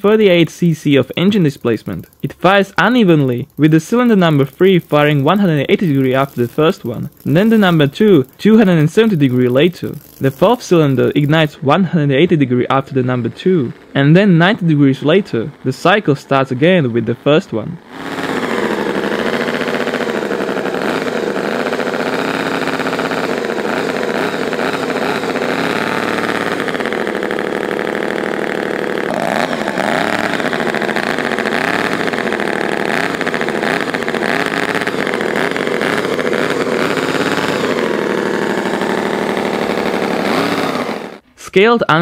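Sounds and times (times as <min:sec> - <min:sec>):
model engine running unevenly: 0:00.0 - 0:41.2.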